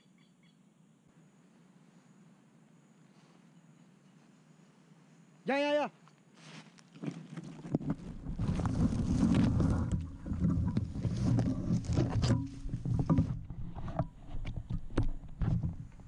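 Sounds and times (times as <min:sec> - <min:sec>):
rustling of foliage: 0:01.4 - 0:16.0.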